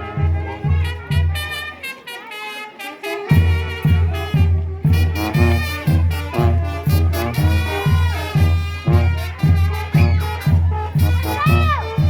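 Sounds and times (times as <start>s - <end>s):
trumpets and trombones: 0.0s - 12.0s.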